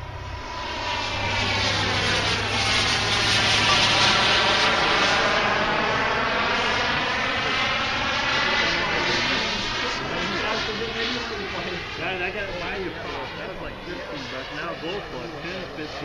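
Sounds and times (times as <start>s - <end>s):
model jet flying past: 0.0s - 16.0s.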